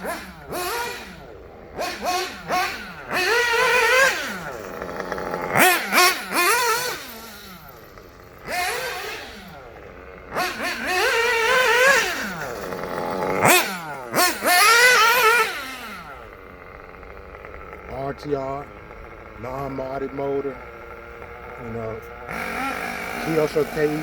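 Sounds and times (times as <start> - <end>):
model car engine revving: 0.0 - 24.0.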